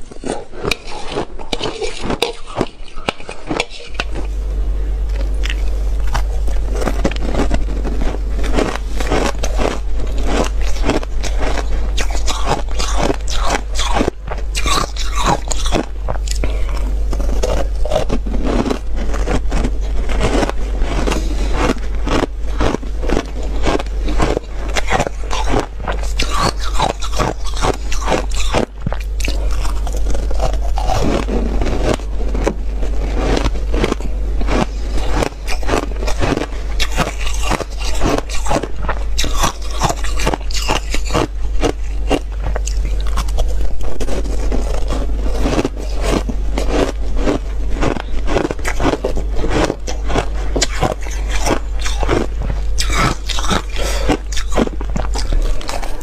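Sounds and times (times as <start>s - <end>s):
ice crunching between teeth: 0.0s - 4.3s, 5.1s - 56.0s
low steady hum: 0.0s - 56.0s.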